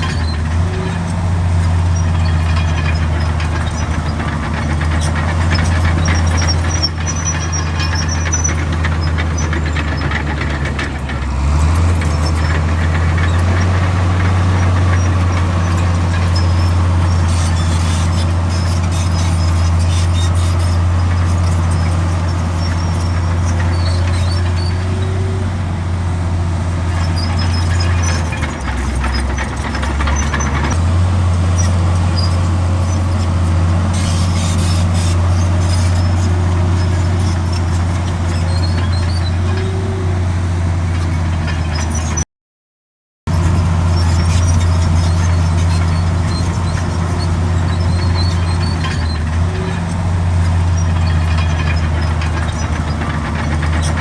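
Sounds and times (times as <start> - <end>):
faint high squeaks: 0.0 - 25.5, 31.6 - 40.1, 43.8 - 54.0
bulldozer diesel engine droning: 0.0 - 42.3, 43.3 - 54.0.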